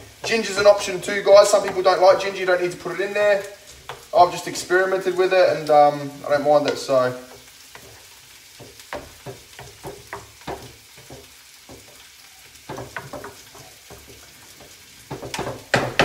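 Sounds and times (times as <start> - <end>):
meat sizzling in a frying pan: 0.0 - 16.0
wooden spoon scraping a pan: 0.0 - 16.0.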